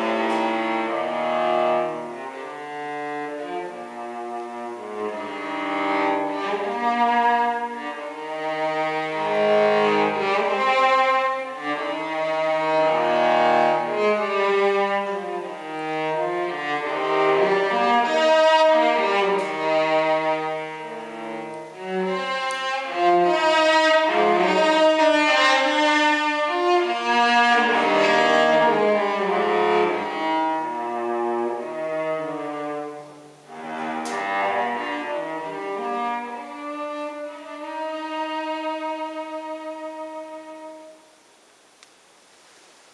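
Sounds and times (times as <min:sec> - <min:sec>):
bowed cello: 0:00.0 - 0:41.3.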